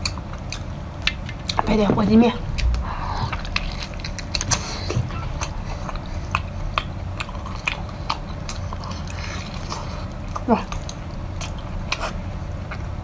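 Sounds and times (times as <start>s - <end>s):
wet biting and chewing: 2.4s - 13.0s.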